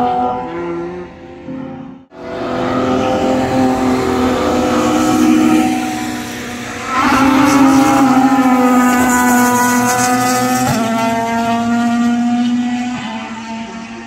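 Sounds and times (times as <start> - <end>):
race cars revving past: 0.0 - 14.0.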